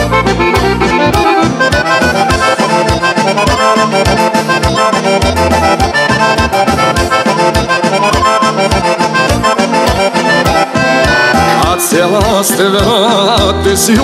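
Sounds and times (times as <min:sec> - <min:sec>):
accordion fast run: 0:00.0 - 0:14.0
steady bass beat: 0:00.0 - 0:14.0.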